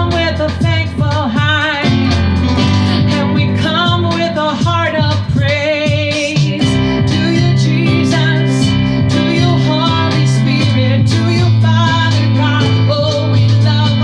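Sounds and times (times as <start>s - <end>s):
instrumental accompaniment: 0.0s - 14.0s
woman singing with vibrato: 0.0s - 14.0s.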